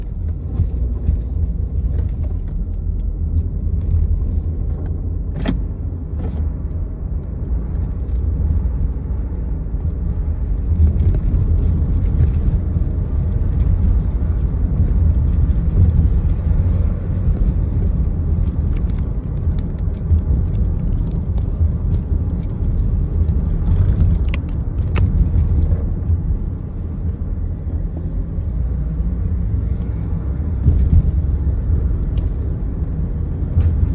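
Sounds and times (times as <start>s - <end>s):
car driving rumble: 0.0s - 33.9s.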